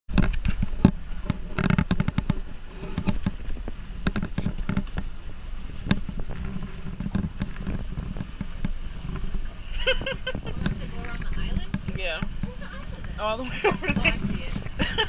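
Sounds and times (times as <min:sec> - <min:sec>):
pedal boat knocking and clattering: 0:00.1 - 0:15.0
steady low rumble: 0:00.1 - 0:15.0.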